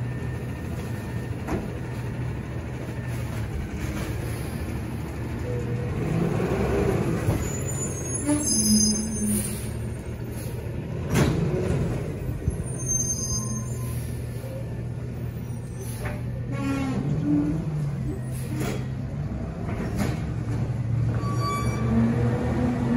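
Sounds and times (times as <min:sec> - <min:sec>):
garbage truck diesel engine: 0:00.0 - 0:22.9.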